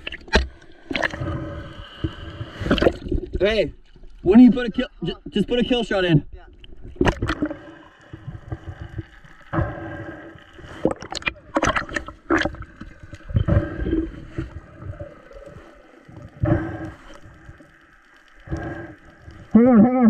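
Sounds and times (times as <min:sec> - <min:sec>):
water rushing and gurgling underwater: 0:00.0 - 0:20.0.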